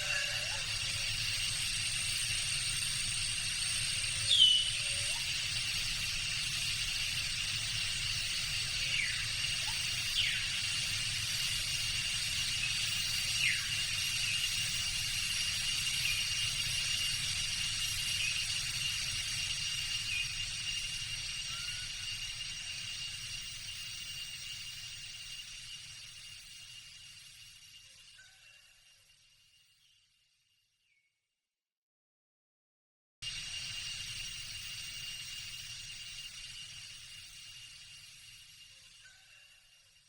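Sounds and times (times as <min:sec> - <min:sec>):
insects droning: 0:00.0 - 0:30.1, 0:33.2 - 0:40.0.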